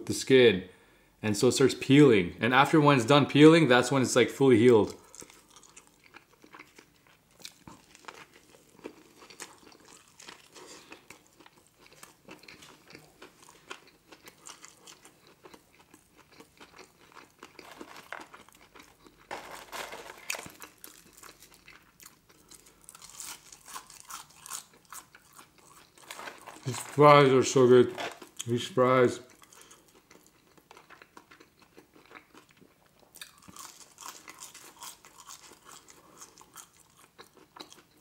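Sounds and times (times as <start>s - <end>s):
chewing burger: 4.8s - 27.0s, 29.2s - 38.0s.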